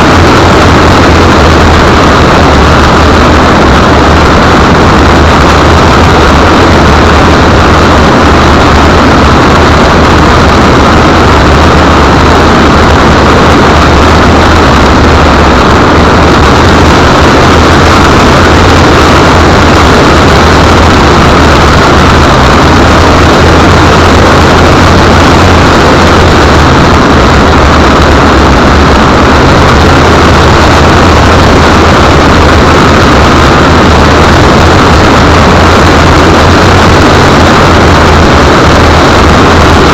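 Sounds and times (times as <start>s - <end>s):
car engine running: 0.0s - 39.9s
overloaded wash of noise: 0.0s - 39.9s
steady low hum: 0.0s - 39.9s.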